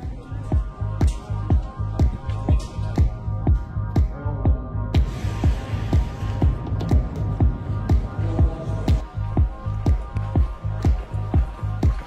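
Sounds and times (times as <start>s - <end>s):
bass line: 0.0s - 12.0s
deep kick drum: 0.5s - 12.0s.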